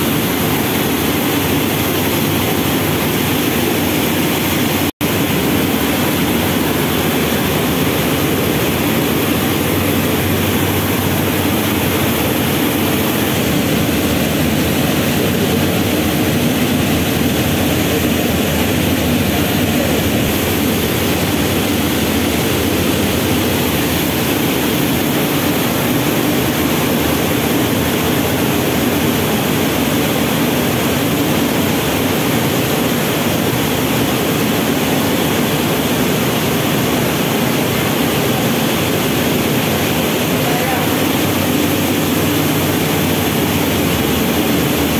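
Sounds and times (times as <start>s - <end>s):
mill machinery droning: 0.0s - 44.9s.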